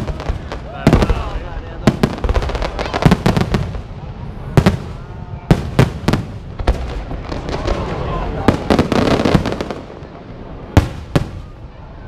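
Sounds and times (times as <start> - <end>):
fireworks shells bursting overhead: 0.0 - 11.6.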